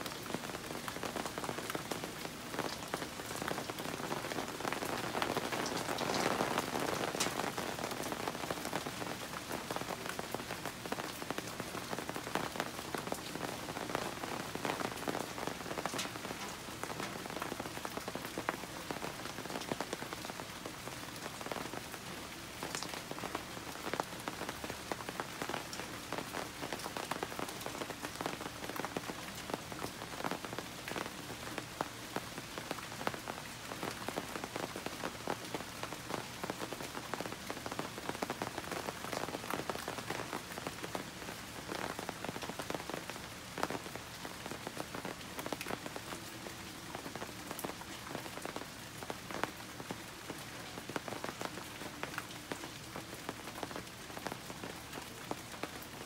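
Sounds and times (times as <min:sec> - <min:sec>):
rain on leaves and wooden deck: 0:00.0 - 0:56.0.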